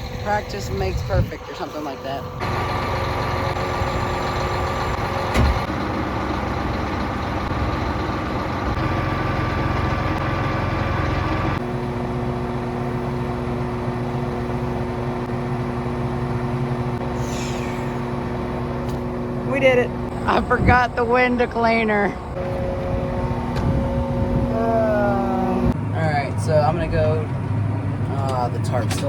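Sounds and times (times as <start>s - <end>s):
large engine idling: 0.0s - 29.0s.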